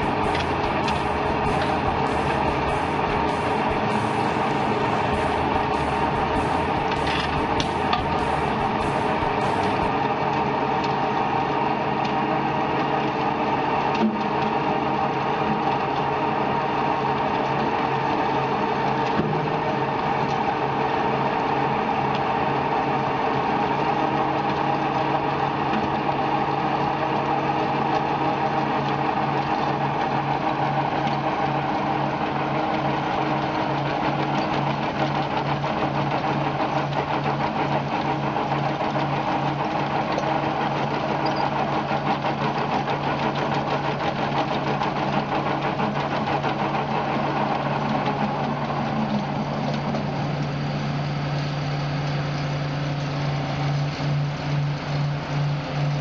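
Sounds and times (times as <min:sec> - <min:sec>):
machine rattling: 0:00.0 - 0:10.0, 0:13.8 - 0:56.0
machine hum: 0:00.0 - 0:56.0.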